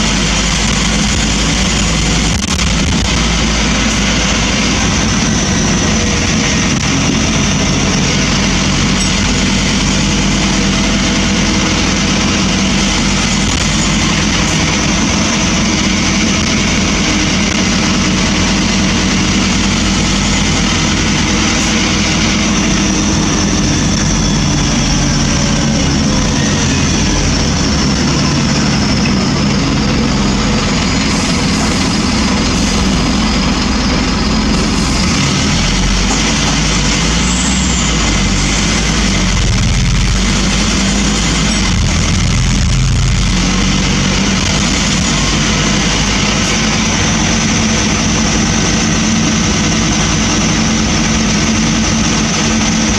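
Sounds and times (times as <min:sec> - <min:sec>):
bus diesel engine running: 0:00.0 - 0:52.9
road noise: 0:00.0 - 0:52.9.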